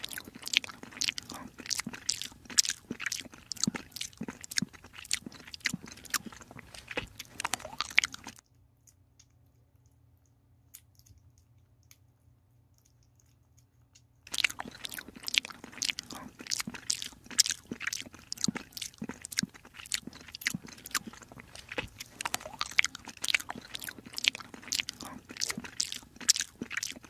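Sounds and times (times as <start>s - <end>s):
kitten chewing wet food: 0.0s - 27.0s.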